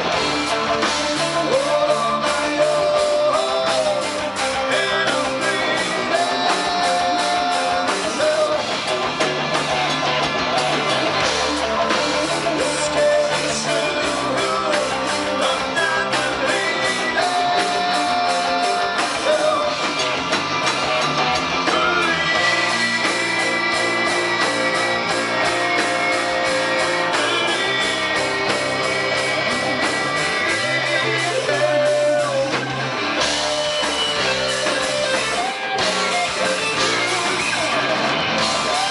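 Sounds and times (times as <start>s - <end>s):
drum beat: 0.0s - 38.9s
electric guitars: 0.0s - 38.9s
person singing: 0.8s - 9.0s, 11.8s - 20.0s, 21.6s - 37.7s.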